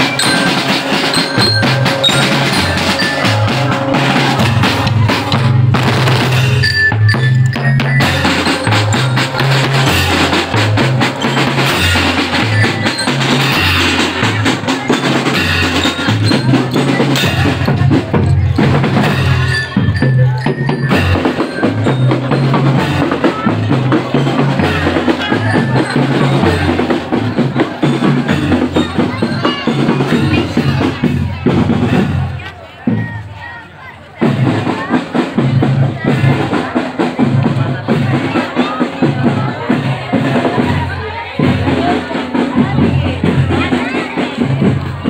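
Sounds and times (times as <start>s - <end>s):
loud music with heavy drums: 0.0s - 33.6s, 34.2s - 45.0s.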